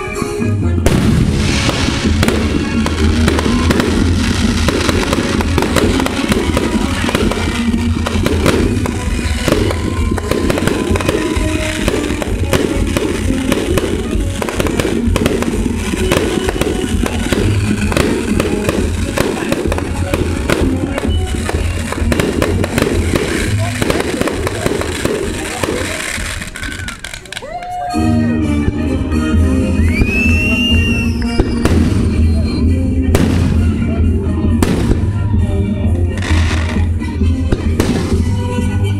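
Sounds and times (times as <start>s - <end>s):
fireworks bangs: 0.8s - 27.7s, 29.8s - 35.5s, 36.1s - 38.9s
fireworks crackling pops: 0.9s - 27.9s, 29.9s - 32.4s, 33.1s - 33.8s, 34.6s - 35.2s, 36.1s - 38.8s.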